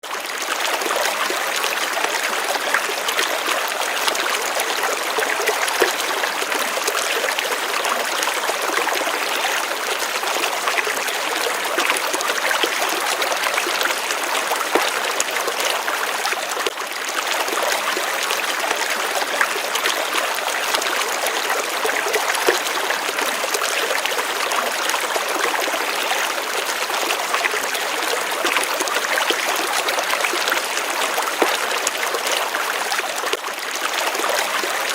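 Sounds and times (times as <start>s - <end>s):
water running and trickling: 0.3s - 34.9s.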